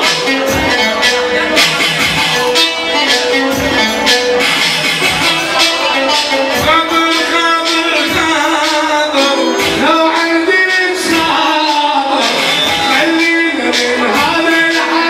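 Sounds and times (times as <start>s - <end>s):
band melody of held tones: 0.0s - 15.0s
steady drum beat: 0.0s - 15.0s.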